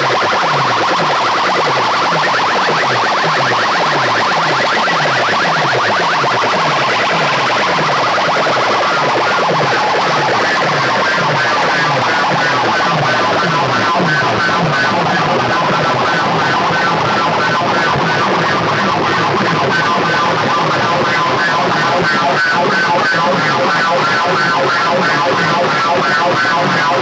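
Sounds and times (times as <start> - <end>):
siren-style electronic music: 0.0 - 27.0.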